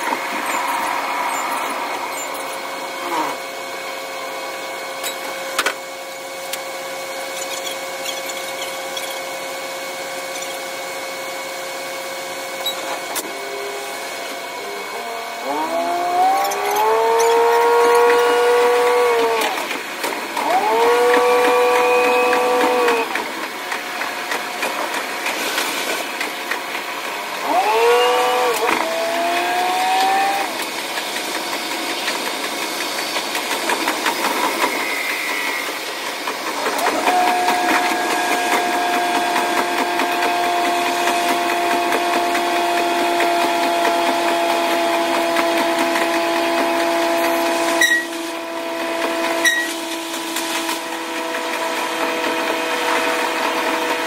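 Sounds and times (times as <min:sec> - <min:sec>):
high-pitched railcar engine: 0:00.0 - 0:54.0.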